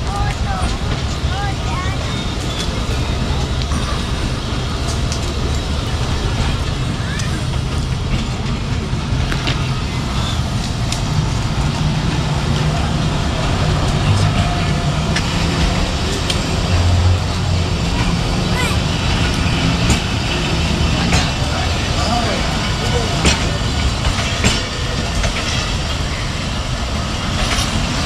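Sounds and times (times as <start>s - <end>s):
train coaches rumbling: 0.0s - 28.0s
wheels clicking on rails: 0.0s - 28.0s.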